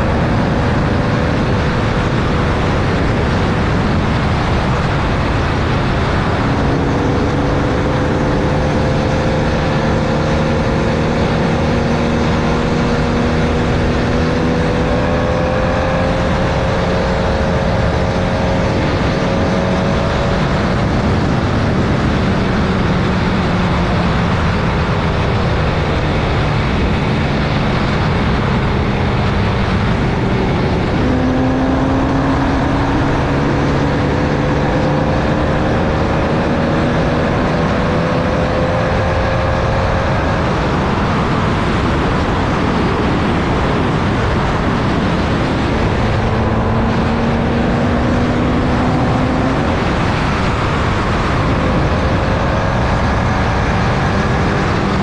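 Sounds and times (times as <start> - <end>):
race car engine running hard: 0.0 - 55.0
wind and road noise: 0.0 - 55.0.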